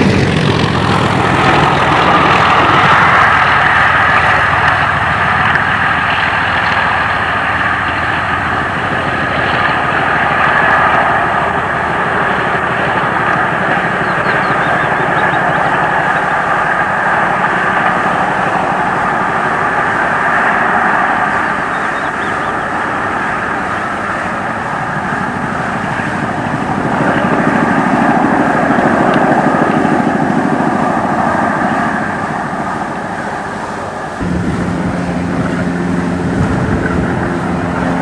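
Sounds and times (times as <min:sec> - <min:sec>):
diesel train engine drone: 0:00.0 - 0:38.0.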